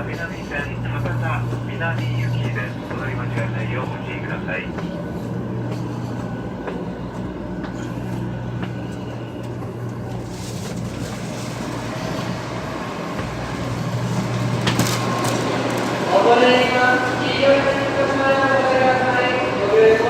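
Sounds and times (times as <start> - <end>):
train humming: 0.0 - 20.0.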